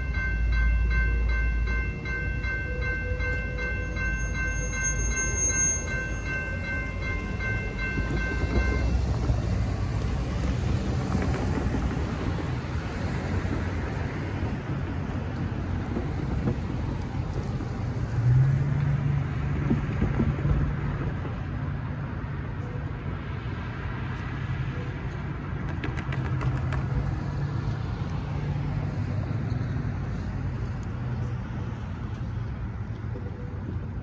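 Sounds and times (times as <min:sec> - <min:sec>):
traffic engine and tyre rumble: 0:00.0 - 0:34.0.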